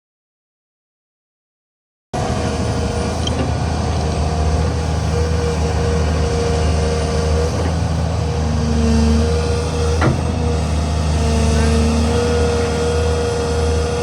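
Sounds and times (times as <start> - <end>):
excavator diesel engine running: 2.2 - 14.0.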